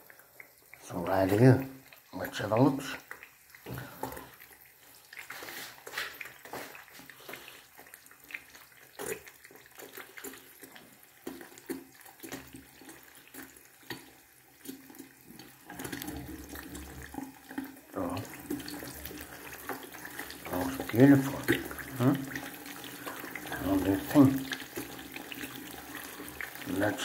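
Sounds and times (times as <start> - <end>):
eggs sizzling in oil: 0.0 - 27.0
oil crackling and popping: 0.0 - 27.0.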